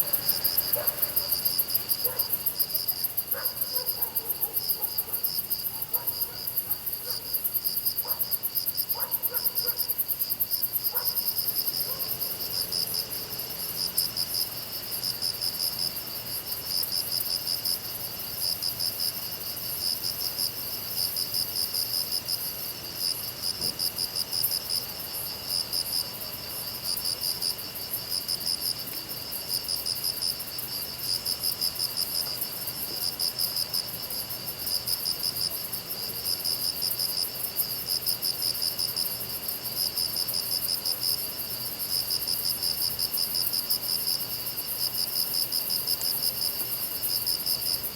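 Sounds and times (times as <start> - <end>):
pulsing cricket chirp: 0.0 - 47.8
continuous high insect trill: 0.0 - 47.9
thin steady insect buzz: 0.0 - 47.9.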